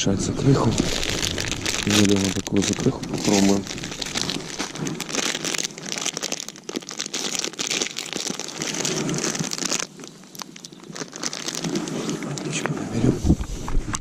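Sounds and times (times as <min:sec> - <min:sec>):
plastic packet crinkling: 0:00.4 - 0:12.7.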